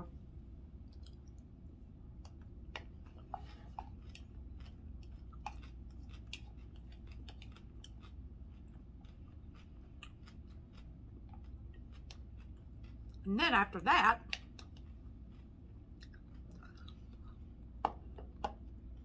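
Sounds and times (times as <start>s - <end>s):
low steady hum: 0.0s - 19.0s
person chewing food: 0.7s - 13.2s, 14.2s - 19.0s.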